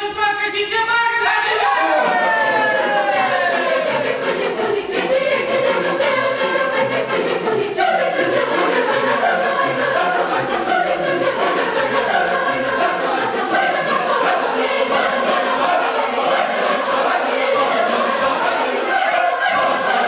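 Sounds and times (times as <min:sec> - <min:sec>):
mixed choir singing: 0:01.3 - 0:20.0.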